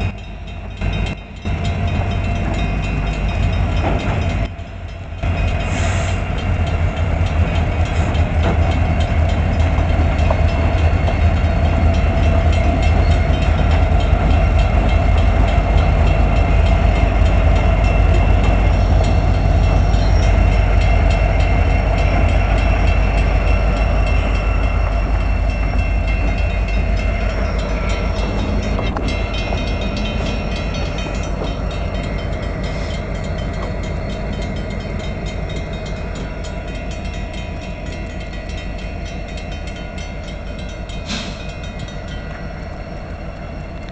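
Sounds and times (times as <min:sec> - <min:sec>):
diesel locomotive engine drone: 0:00.0 - 0:43.9
train wheels on rails: 0:00.0 - 0:43.9.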